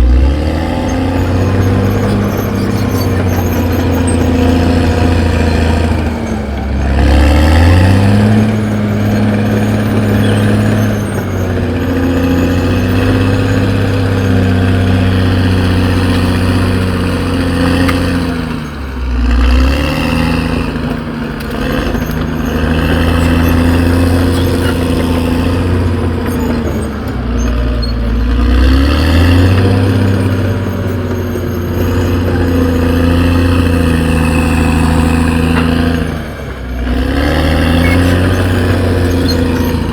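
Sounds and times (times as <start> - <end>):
bulldozer diesel engine revving: 0.0 - 39.9.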